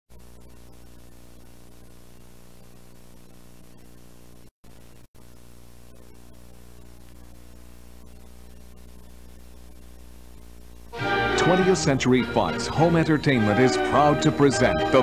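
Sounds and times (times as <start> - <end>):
low electrical hum: 0.1 - 13.4
tape hiss: 0.1 - 15.0.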